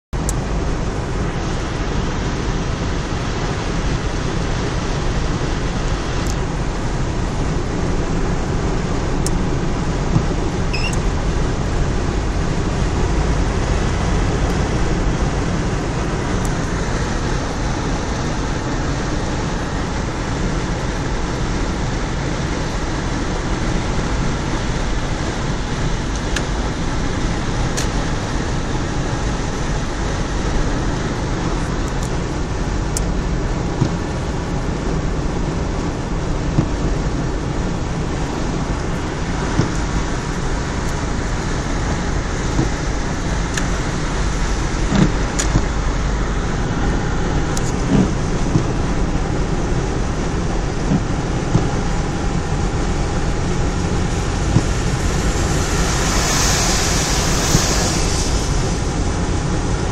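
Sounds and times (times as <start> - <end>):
engine and wind rumble: 0.0 - 59.9
tyres on wet asphalt: 0.2 - 59.9.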